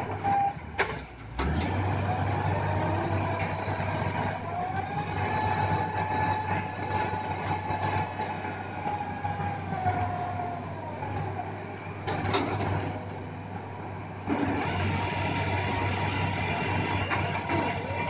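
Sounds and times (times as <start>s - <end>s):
drilling rig engine and hydraulics: 0.0s - 18.0s.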